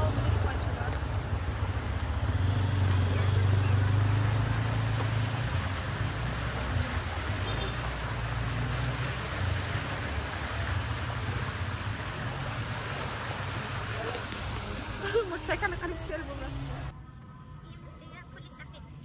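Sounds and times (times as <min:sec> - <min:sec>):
tyres rushing through water: 0:00.0 - 0:17.0
car engine humming: 0:00.0 - 0:19.0.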